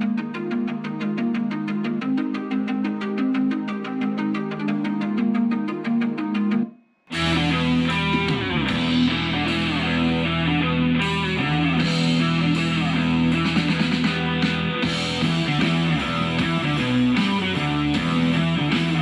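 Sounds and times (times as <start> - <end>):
guitar-led rock music: 0.0 - 19.0
music from sound bar: 0.0 - 19.0.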